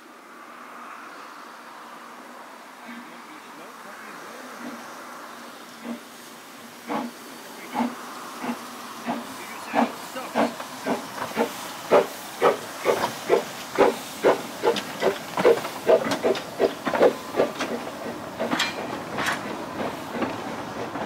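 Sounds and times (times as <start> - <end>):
steam hissing: 0.8 - 21.0
steam locomotive chuffing: 3.8 - 21.0.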